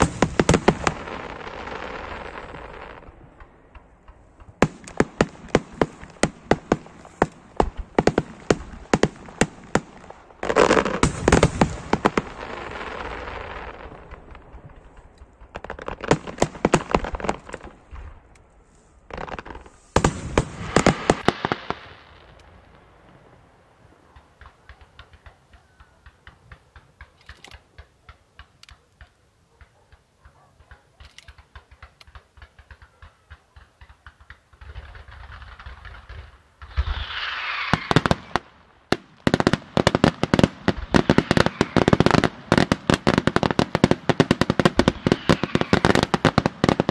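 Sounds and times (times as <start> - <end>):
firework shells bursting with bangs: 0.0 - 18.1, 23.9 - 46.9
firework pops and crackles: 0.0 - 18.4, 19.1 - 46.9.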